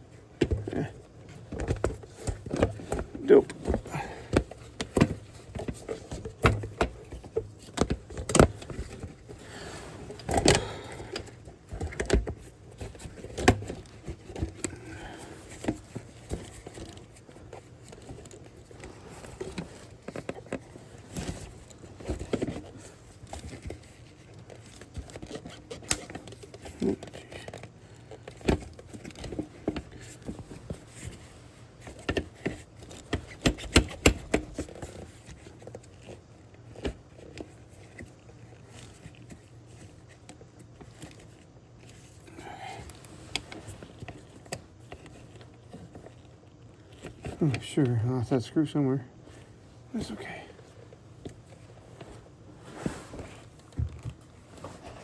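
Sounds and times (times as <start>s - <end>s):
tools and parts clicking and rattling: 0.3s - 47.7s.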